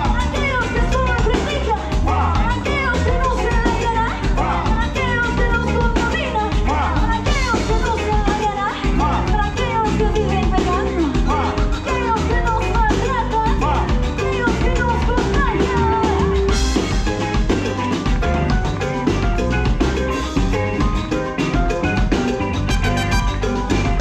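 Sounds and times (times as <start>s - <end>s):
upbeat pop band playing: 0.0s - 24.0s.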